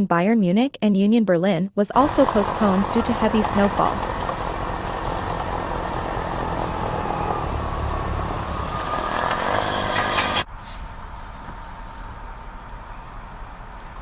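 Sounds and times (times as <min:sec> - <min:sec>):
vehicles driving past: 0:02.0 - 0:14.0.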